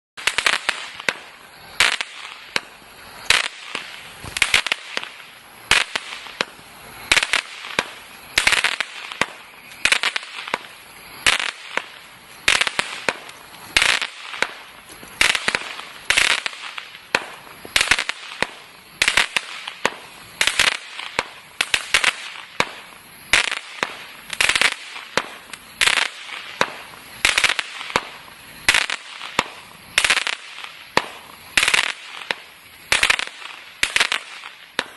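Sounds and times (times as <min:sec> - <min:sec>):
firework reports with crackling: 0:00.2 - 0:34.9.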